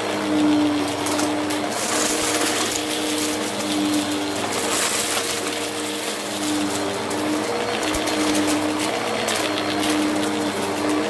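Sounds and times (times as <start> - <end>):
debris crunching in vacuum: 0.0 - 11.0
vacuum cleaner running: 0.0 - 11.0.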